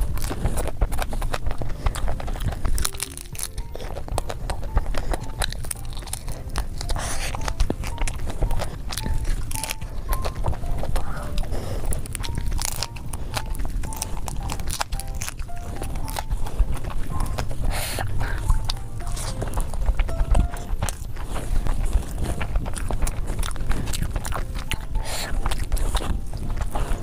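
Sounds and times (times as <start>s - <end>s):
chewing crispy food: 0.0s - 27.0s
wet mouth sounds: 0.0s - 27.0s.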